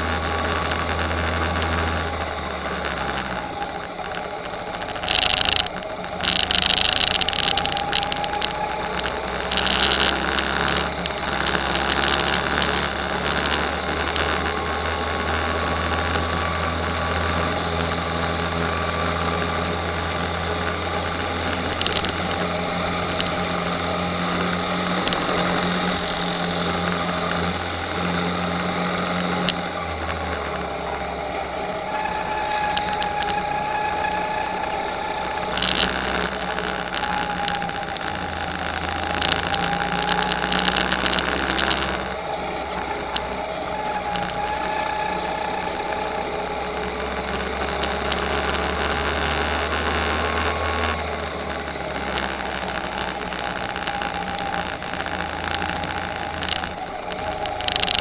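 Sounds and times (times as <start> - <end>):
go-kart engines running: 0.0 - 58.0.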